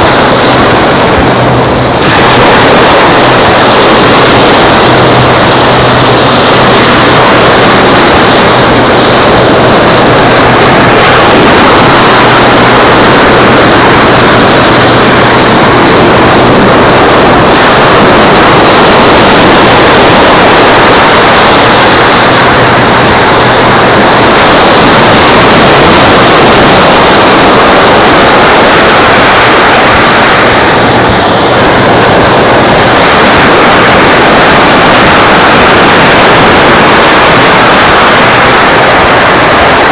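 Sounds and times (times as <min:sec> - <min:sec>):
surf and wind rushing: 0:00.0 - 0:39.9.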